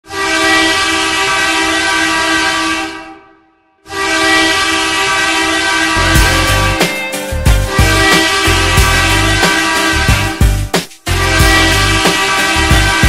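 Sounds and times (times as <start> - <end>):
goal horn blasts: 0.1 - 3.3, 3.9 - 7.0, 7.6 - 10.4, 11.1 - 13.0.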